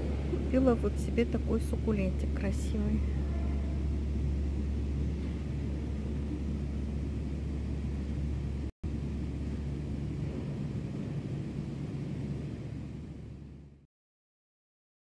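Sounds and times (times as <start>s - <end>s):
low rumbling hum: 0.0s - 13.9s.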